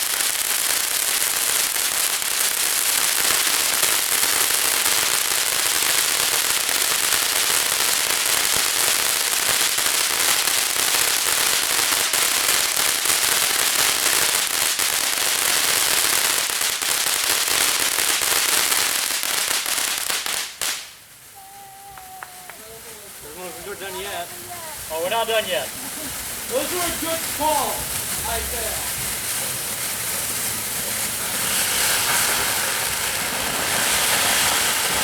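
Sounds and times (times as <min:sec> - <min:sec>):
fireworks crackling: 0:00.0 - 0:35.0.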